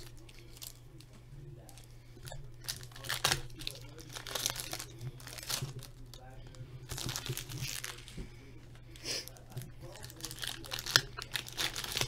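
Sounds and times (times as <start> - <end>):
foil wrappers crinkling: 0.0 - 12.0
steady low hum: 0.0 - 12.0.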